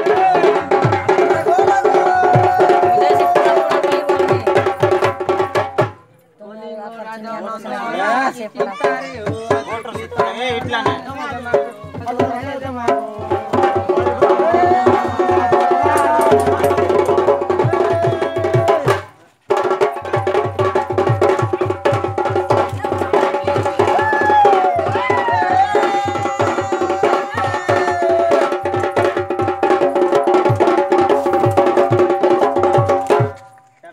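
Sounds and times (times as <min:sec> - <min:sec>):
barrel drum beating: 0:00.0 - 0:06.0, 0:08.5 - 0:33.5.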